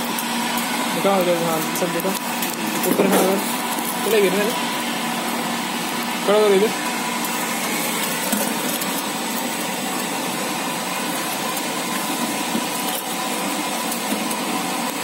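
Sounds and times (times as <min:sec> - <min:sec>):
machinery whirring and humming: 0:00.0 - 0:15.0.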